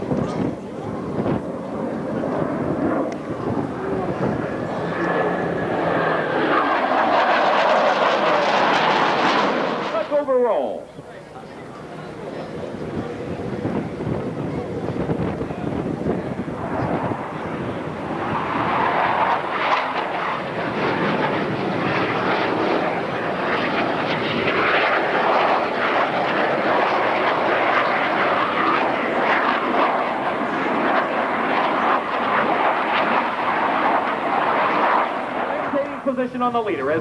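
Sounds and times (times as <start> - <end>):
jet engines flying over: 0.0 - 37.0.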